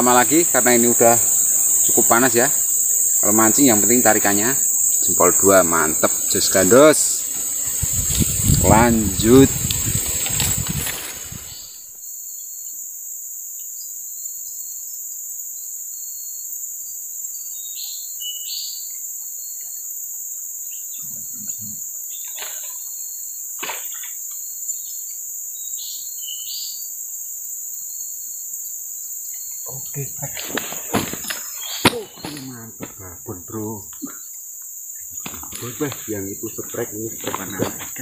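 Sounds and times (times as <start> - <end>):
insect chorus drone: 0.0 - 38.0.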